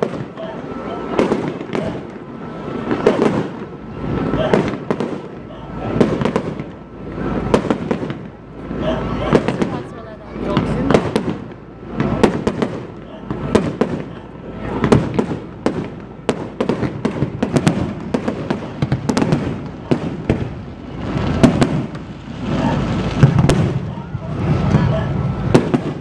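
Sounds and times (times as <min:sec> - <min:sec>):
fireworks bangs and crackles: 0:00.0 - 0:26.0
fireworks rumbling: 0:00.0 - 0:26.0.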